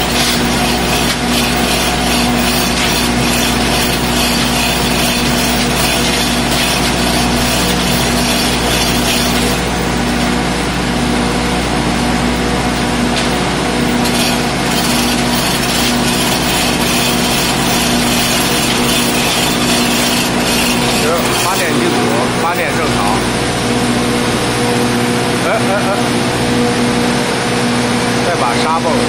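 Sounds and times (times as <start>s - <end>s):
generator engine drone: 0.0s - 29.0s.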